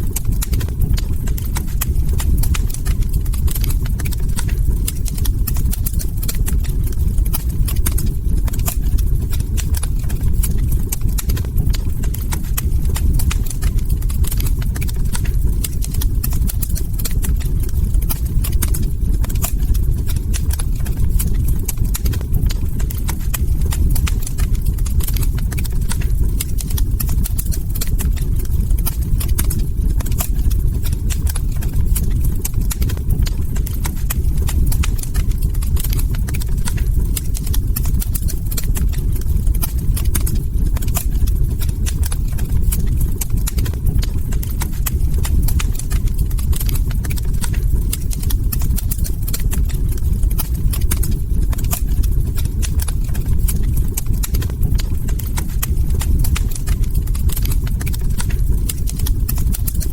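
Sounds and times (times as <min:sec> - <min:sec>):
fire rumbling: 0:00.0 - 0:59.9
log fire crackling: 0:00.0 - 0:59.9.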